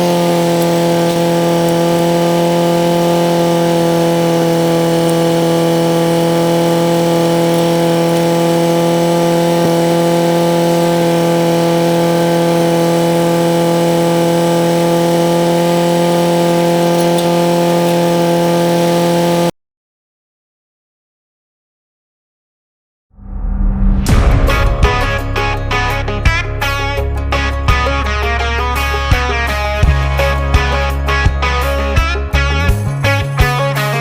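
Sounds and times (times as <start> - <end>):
tractor driven mower humming: 0.0 - 19.6, 24.1 - 34.0.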